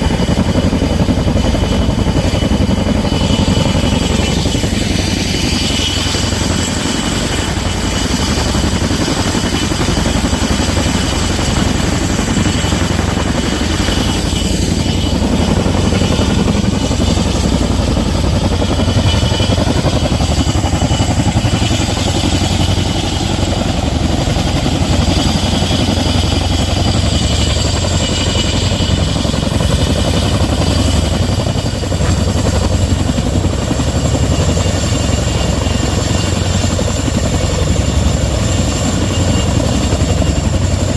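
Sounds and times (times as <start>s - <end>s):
helicopter rotor beat: 0.0s - 40.9s
turbine whine: 0.0s - 40.9s.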